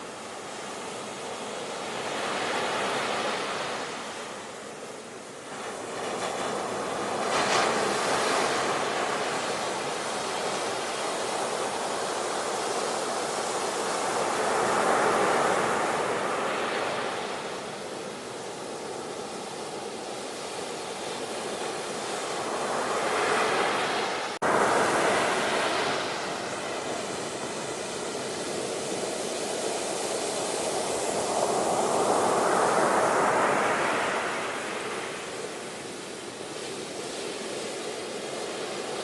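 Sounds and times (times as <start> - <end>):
ocean surf washing: 0.0 - 39.0.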